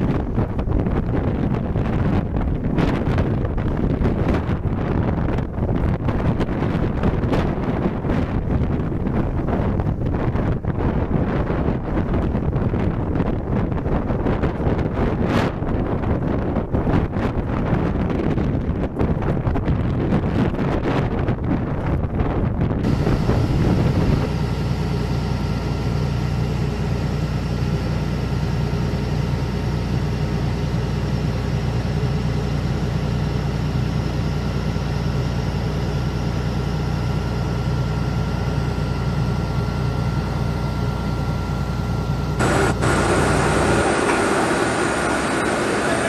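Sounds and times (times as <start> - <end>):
jet engines idling: 0.0 - 19.8, 22.7 - 46.0.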